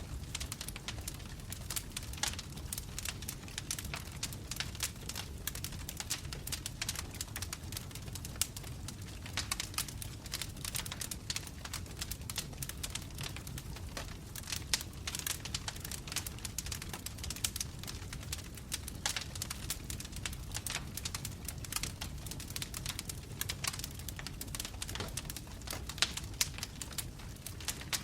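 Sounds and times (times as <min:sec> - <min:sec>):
burning logs crackling: 0:00.0 - 0:28.0
low rumble of fire: 0:00.0 - 0:28.0.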